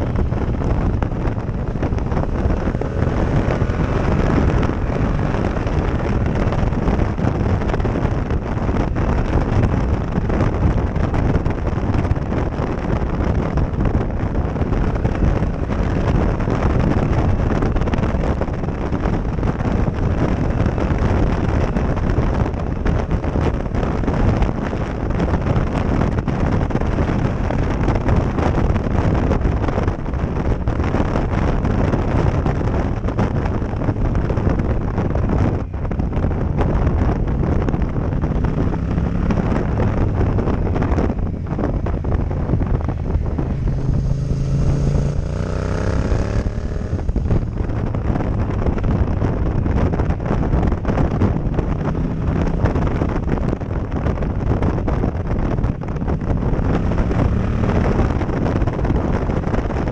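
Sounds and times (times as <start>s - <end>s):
wind buffeting a microphone: 0.0s - 59.9s.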